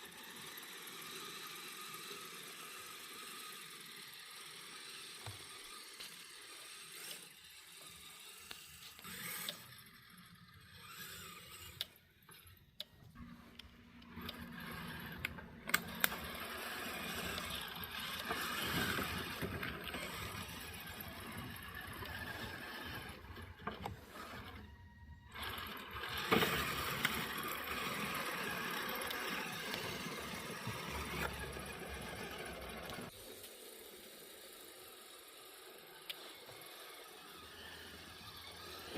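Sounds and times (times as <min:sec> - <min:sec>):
toy motor and gearbox whine: 0:00.0 - 0:38.9.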